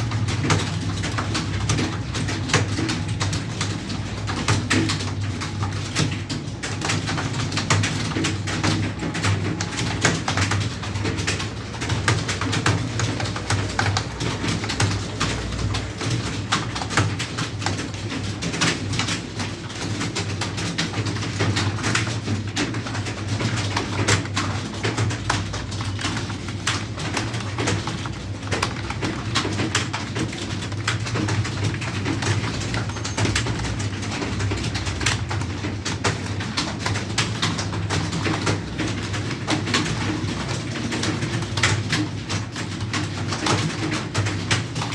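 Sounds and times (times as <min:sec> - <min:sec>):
keyboard typing: 0:00.0 - 0:44.9.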